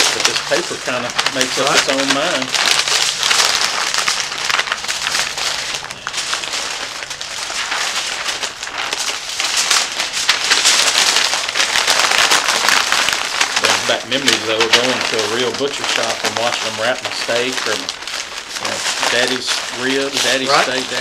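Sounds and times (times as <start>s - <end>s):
foil and paper crinkling: 0.0s - 21.0s.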